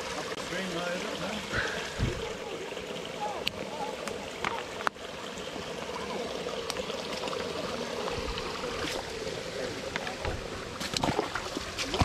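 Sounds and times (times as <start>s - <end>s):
stream trickling over rocks: 0.0s - 12.0s.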